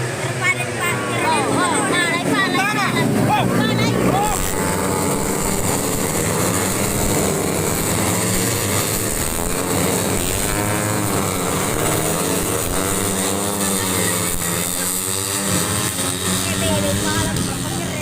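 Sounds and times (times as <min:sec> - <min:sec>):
racing motorcycles revving and passing: 0:00.0 - 0:18.0.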